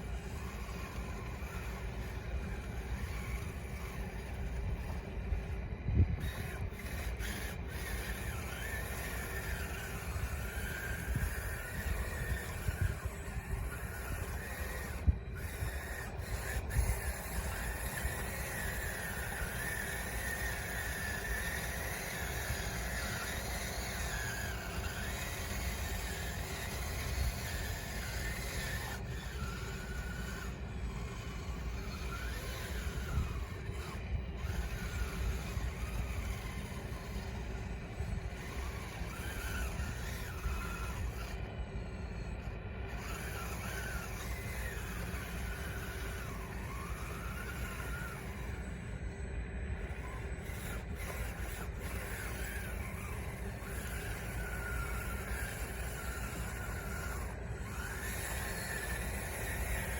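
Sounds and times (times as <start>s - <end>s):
electric motors and gears whining: 0.0s - 59.9s.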